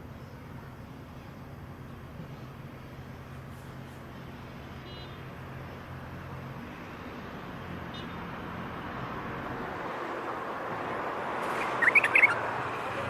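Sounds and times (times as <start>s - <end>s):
passing traffic rushing: 0.0s - 13.0s.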